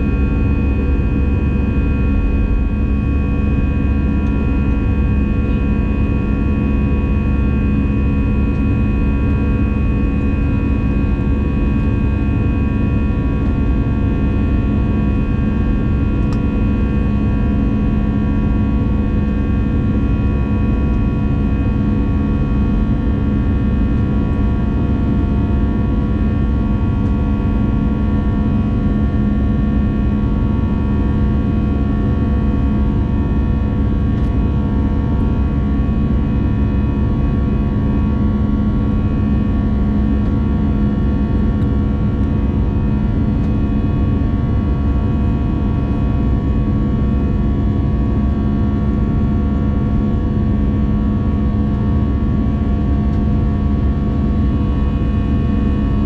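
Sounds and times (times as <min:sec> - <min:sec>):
aircraft cabin drone: 0:00.0 - 0:56.0.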